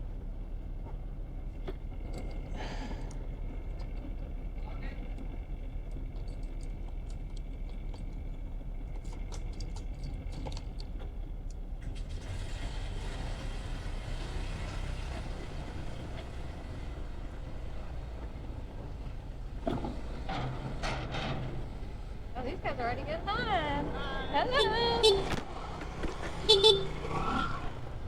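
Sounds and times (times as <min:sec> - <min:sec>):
engine rumble: 0:00.0 - 0:28.0.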